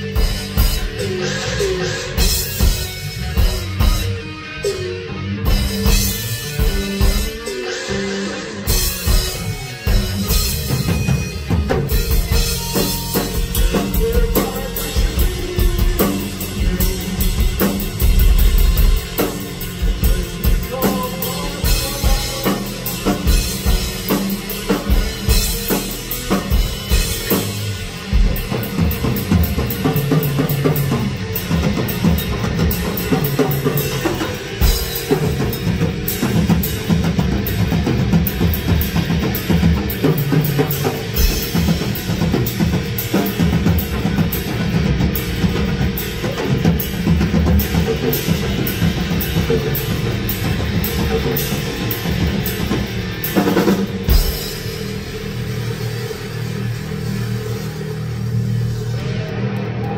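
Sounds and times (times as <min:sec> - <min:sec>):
progressive rock band playing: 0:00.0 - 0:59.9.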